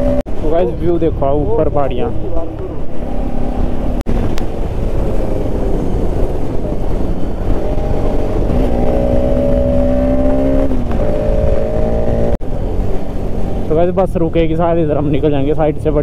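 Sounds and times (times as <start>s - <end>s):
motorcycle engine accelerating: 0.0s - 0.8s, 1.4s - 15.3s
wind noise: 0.0s - 13.7s.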